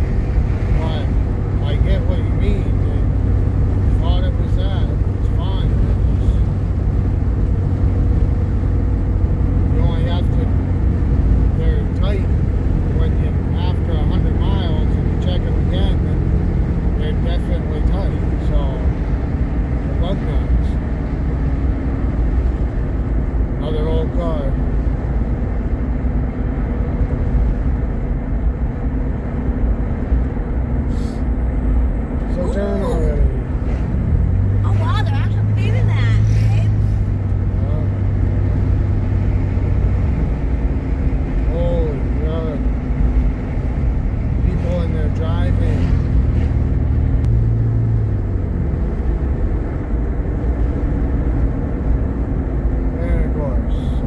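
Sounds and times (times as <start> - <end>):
car road and engine noise: 0.0 - 54.0
low hum: 0.0 - 54.0.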